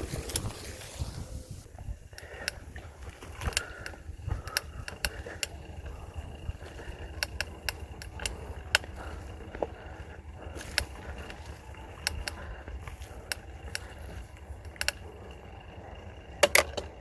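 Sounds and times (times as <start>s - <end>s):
bike clicking and clattering: 0.0s - 17.0s
tyres rumbling on trail: 0.0s - 17.0s.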